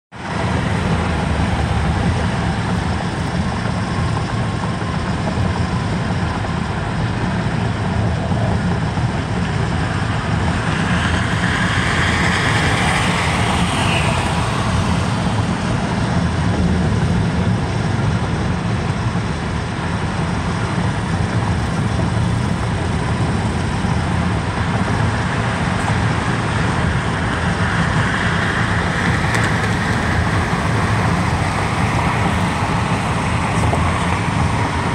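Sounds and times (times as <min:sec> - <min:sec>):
road and tyre noise in car: 0:00.1 - 0:34.9.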